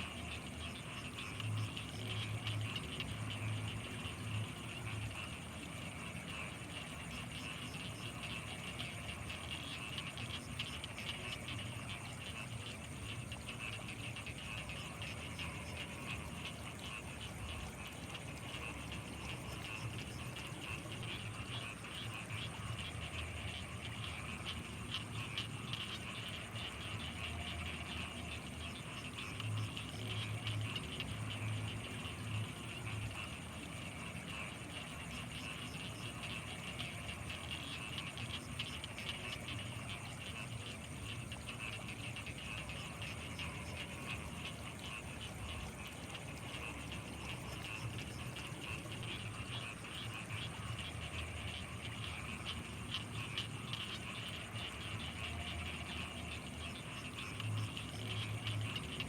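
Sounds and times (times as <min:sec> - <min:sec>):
frogs croaking: 0:00.0 - 0:59.0
insects chirring: 0:00.0 - 0:59.0.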